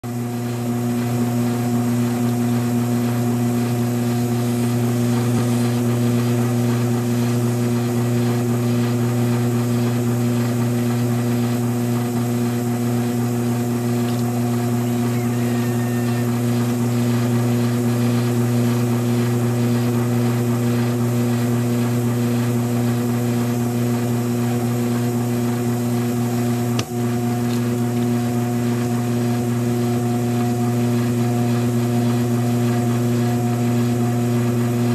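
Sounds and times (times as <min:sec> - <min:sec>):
potter's wheel motor humming: 0:00.0 - 0:34.9.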